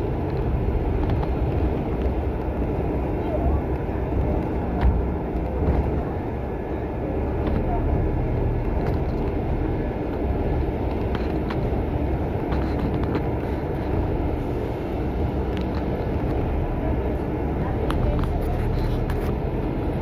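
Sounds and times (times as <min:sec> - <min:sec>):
light rattles and clicks: 0:00.0 - 0:06.3, 0:08.6 - 0:19.9
bus engine and road rumble: 0:00.0 - 0:20.0.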